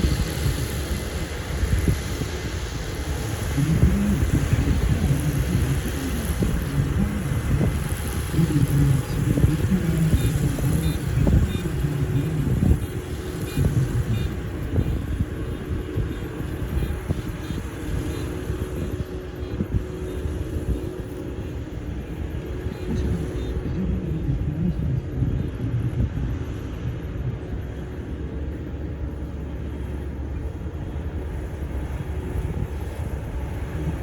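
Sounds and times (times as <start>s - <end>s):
farm machinery engine rumbling: 0.0s - 34.0s.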